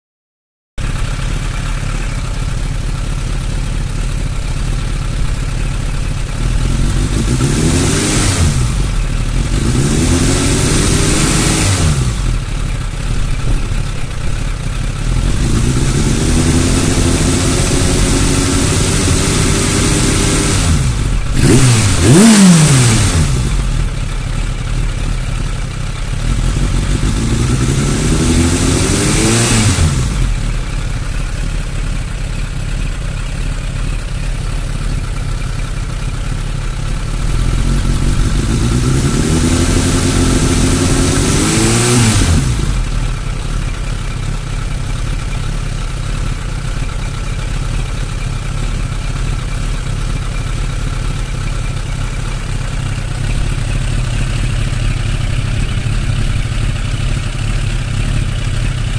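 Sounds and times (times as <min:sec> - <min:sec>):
motorcycle engine idling and revving: 0:00.8 - 0:58.9.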